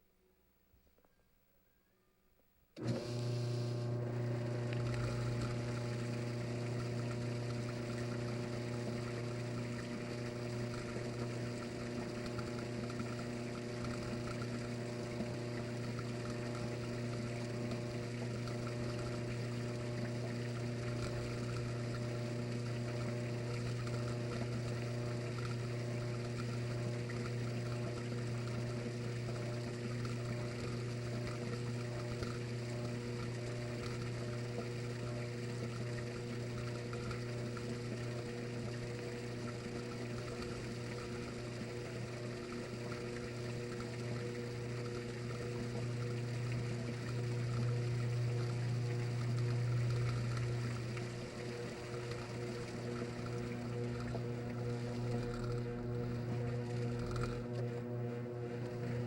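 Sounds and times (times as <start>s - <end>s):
drain pump humming: 2.7s - 59.0s
water rushing: 3.9s - 59.0s.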